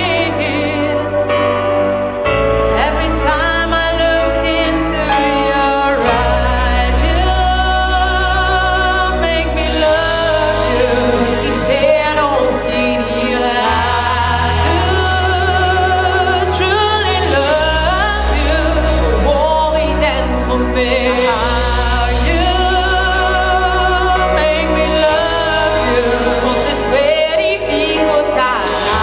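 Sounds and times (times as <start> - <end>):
person singing: 0.0 - 29.0
sustained bass notes: 0.0 - 29.0.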